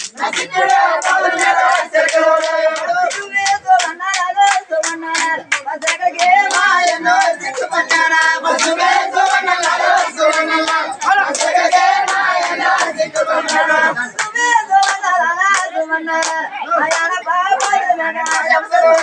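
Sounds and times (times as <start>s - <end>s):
group singing folk song: 0.0s - 19.0s
sharp hand clapping: 0.0s - 19.0s.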